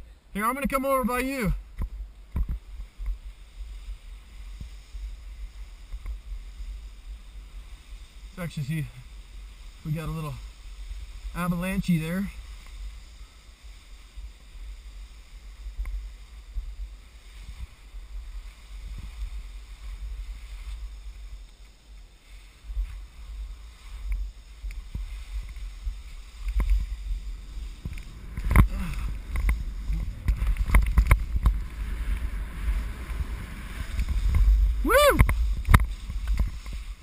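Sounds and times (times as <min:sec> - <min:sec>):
wind rumbling on microphone: 0:00.0 - 0:37.0
skis swishing through slushy snow: 0:02.2 - 0:37.0.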